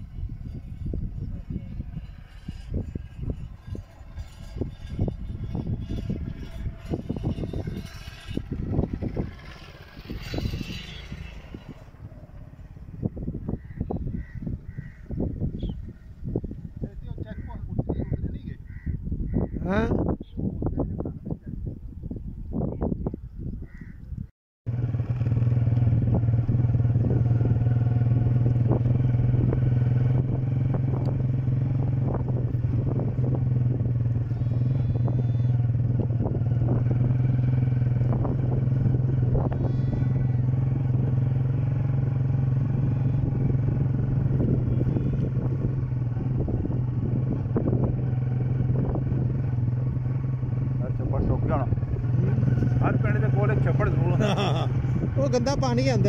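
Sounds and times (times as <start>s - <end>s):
motorcycle engine droning: 0.0s - 21.4s, 24.7s - 56.0s.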